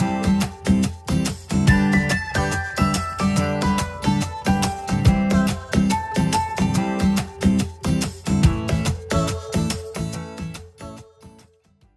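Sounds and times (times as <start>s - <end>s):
strummed acoustic guitar chords: 0.0s - 11.4s.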